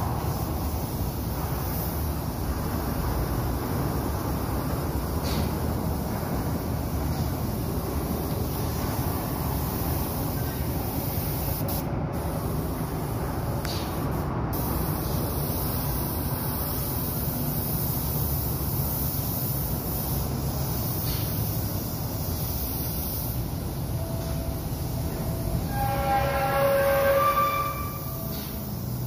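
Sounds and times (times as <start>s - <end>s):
paint spray gun hissing: 0.1s - 2.9s, 3.9s - 25.0s, 28.0s - 29.0s.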